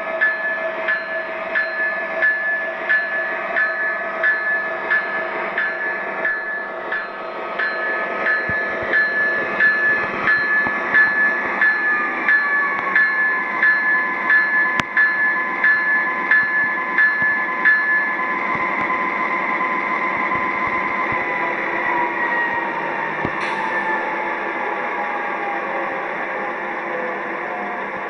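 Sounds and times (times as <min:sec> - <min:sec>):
locomotive bell ringing: 0:00.0 - 0:24.4.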